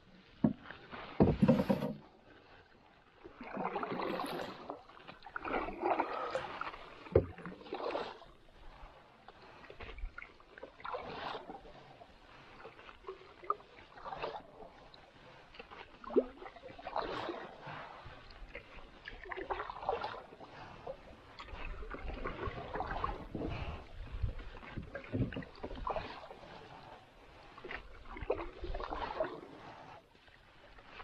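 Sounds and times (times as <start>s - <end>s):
paddle swishing water: 0.0s - 31.0s.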